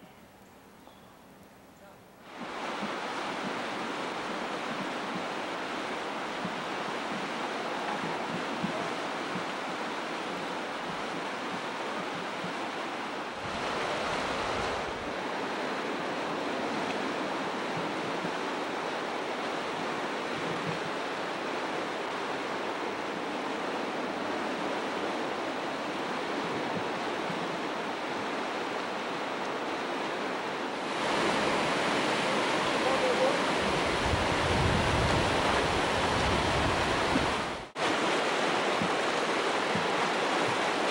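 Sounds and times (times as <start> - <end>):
water rumble: 2.2 - 40.9
whitewater rushing: 2.2 - 40.9.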